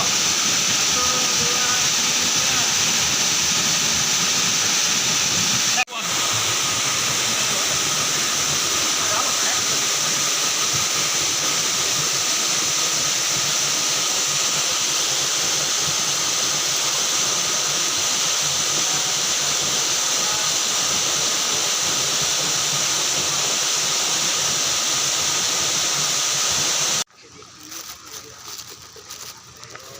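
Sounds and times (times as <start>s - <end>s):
waterfall rushing: 0.0s - 27.1s.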